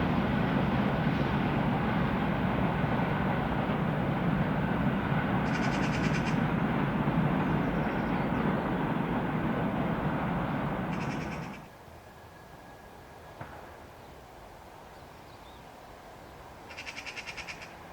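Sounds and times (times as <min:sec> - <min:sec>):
train wheels rumbling on rails: 0:00.0 - 0:14.7.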